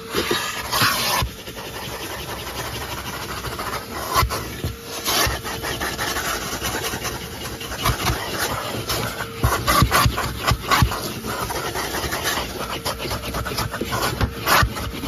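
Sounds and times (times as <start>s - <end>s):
vacuum cleaner running: 0.0s - 15.0s
vacuum nozzle scraping: 0.0s - 15.0s.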